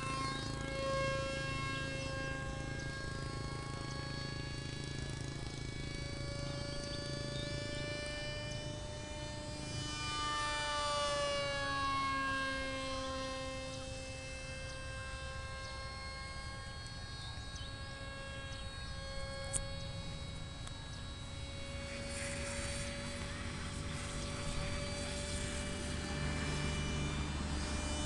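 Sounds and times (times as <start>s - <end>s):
model jet fan whine: 0.0s - 28.0s.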